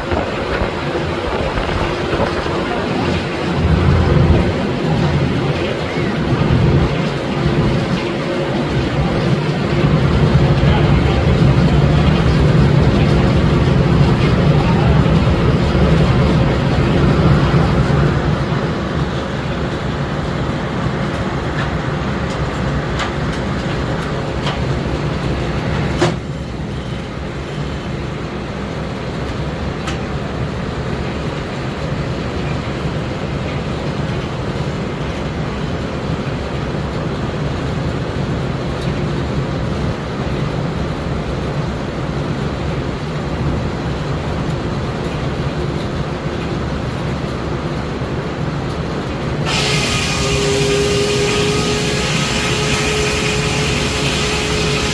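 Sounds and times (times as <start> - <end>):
sawmill mechanical rumble: 0.0 - 54.9.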